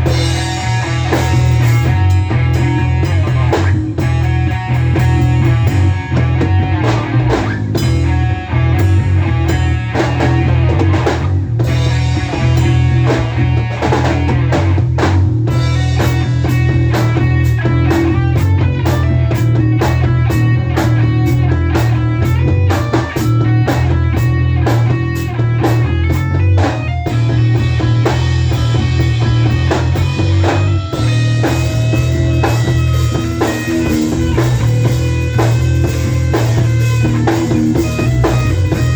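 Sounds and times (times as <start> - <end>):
drum kit beating: 0.0 - 38.9
electric guitar: 0.0 - 38.9.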